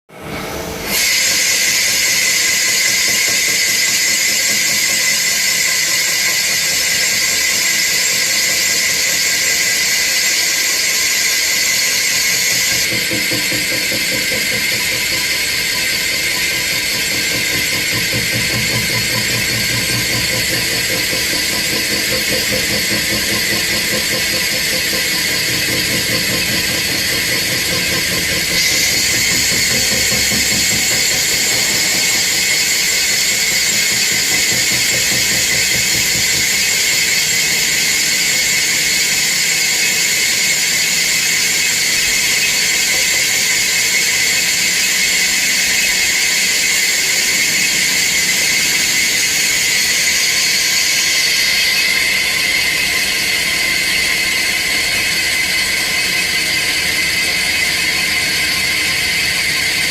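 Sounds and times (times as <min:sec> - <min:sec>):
lathe cutting squeal: 0:00.3 - 0:59.9.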